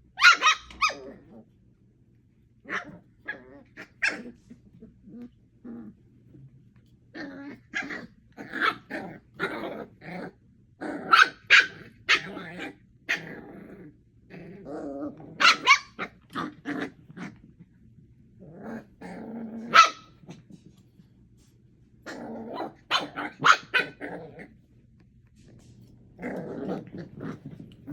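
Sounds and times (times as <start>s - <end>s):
puppies growling: 0.7s - 1.6s, 2.6s - 20.8s, 22.0s - 24.7s, 25.3s - 27.9s.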